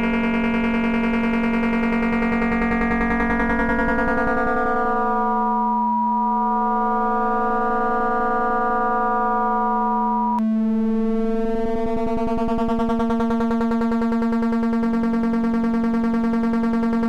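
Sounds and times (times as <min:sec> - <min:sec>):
buzzy synthesizer drone: 0:00.0 - 0:17.0.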